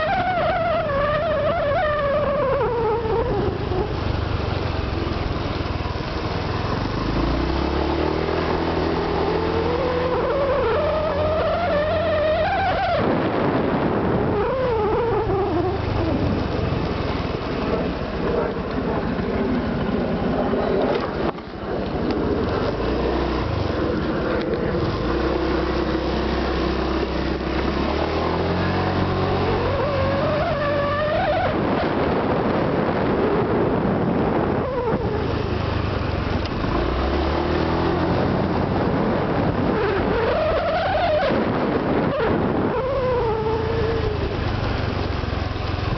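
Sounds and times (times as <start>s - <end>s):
scooter engine revving: 0.0s - 45.9s.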